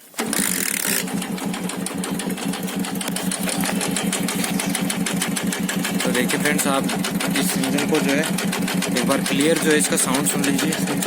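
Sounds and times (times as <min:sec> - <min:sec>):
motorcycle engine idling: 0:00.0 - 0:11.0
rapid engine knocking: 0:00.2 - 0:11.0.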